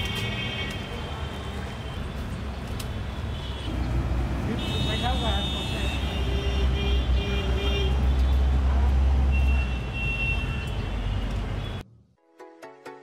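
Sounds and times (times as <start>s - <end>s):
road traffic engine rumble: 0.0s - 11.8s.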